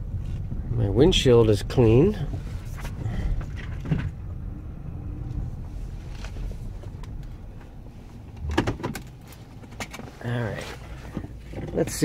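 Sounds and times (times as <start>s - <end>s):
minivan rumbling from inside: 0.0s - 12.0s.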